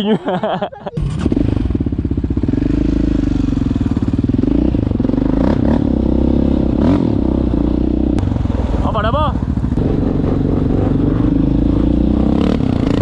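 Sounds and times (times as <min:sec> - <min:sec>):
quad engine revving: 0:00.9 - 0:13.0.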